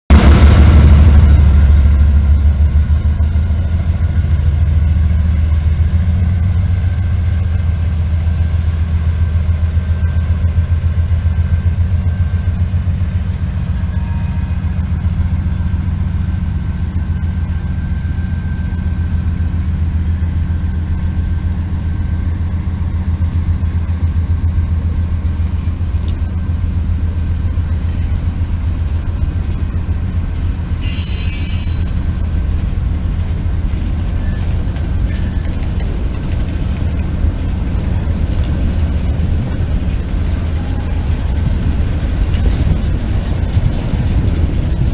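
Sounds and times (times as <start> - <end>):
diesel locomotive rumble: 0.1 - 44.9.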